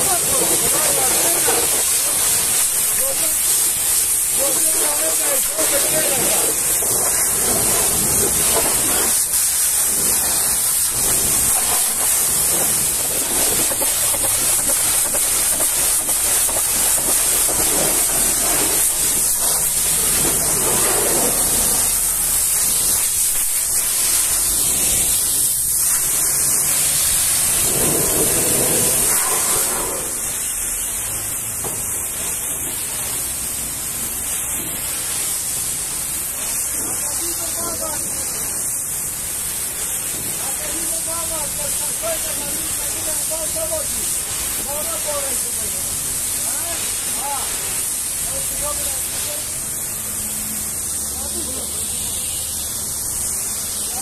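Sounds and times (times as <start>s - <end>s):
pressure washer spraying water: 0.0s - 54.0s.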